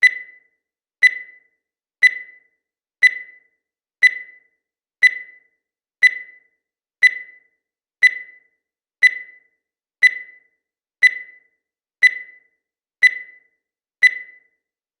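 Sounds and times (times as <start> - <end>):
timer beeps: 0.0 - 14.7.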